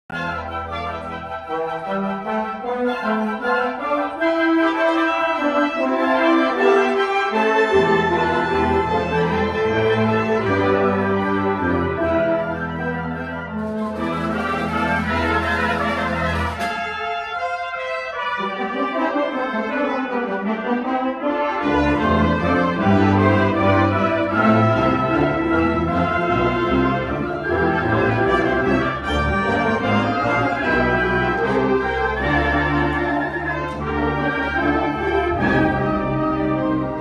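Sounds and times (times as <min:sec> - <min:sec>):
low brass: 0:00.1 - 0:37.0
wind ensemble playing: 0:00.1 - 0:37.0.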